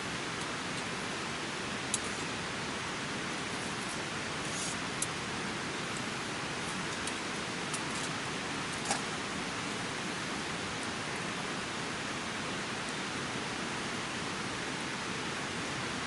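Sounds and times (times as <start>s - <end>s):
steady rushing hiss: 0.0s - 16.0s.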